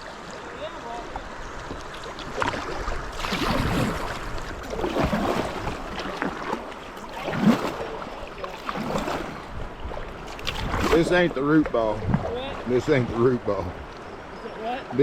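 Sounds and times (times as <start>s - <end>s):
water splashing around kayak: 0.0s - 15.0s.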